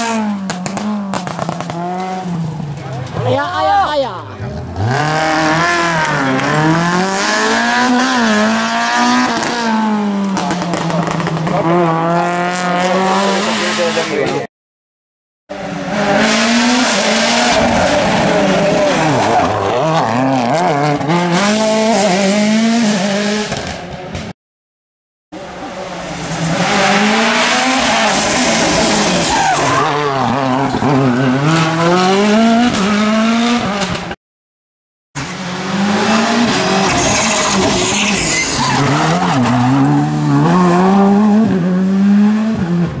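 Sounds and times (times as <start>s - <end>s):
rally car engines revving: 0.0s - 14.5s, 15.5s - 24.3s, 25.4s - 34.2s, 35.2s - 43.0s.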